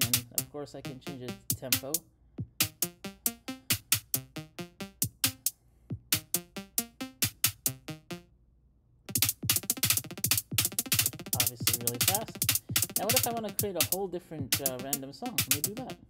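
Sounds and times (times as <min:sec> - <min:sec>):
drum machine loop with bass: 0:00.0 - 0:08.2, 0:09.1 - 0:16.0.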